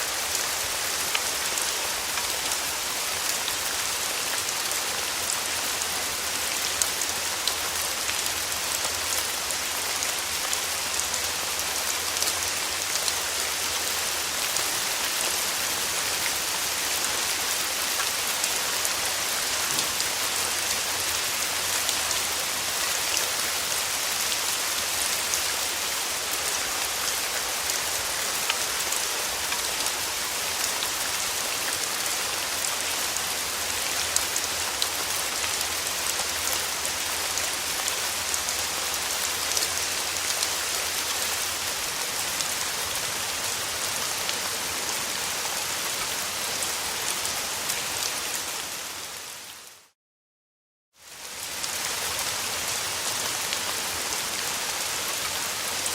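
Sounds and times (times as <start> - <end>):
rain pattering: 0.0 - 48.8.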